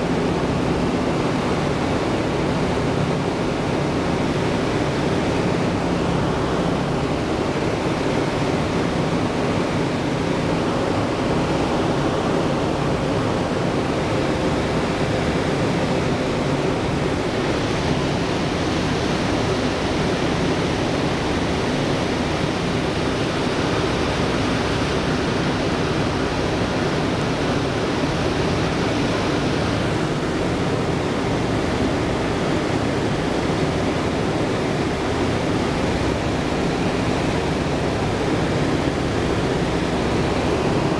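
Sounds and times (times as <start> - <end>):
propeller engines droning: 0.0 - 40.9.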